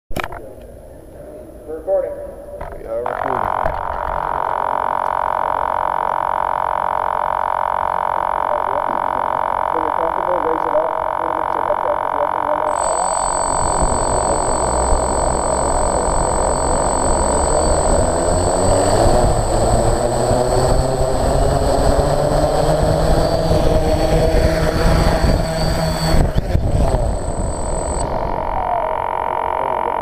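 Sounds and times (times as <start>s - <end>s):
high turbine whine: 0.7s - 30.0s
helicopter engine and rotor: 3.4s - 30.0s.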